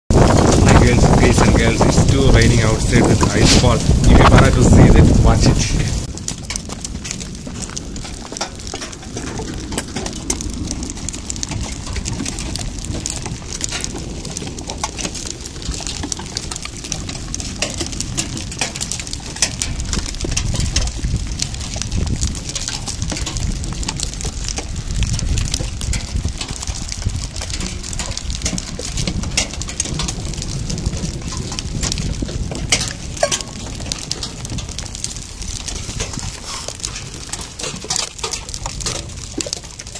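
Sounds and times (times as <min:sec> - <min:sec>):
low rumble: 0:00.1 - 0:39.9
rain and hail pattering: 0:00.1 - 0:39.9.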